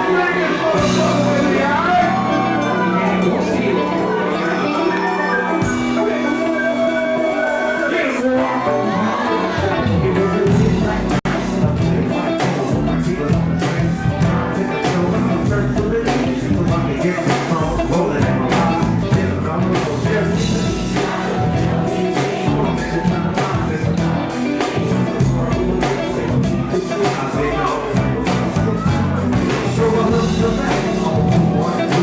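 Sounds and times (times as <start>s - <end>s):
hip-hop beat: 0.0s - 32.0s
person singing: 0.0s - 32.0s.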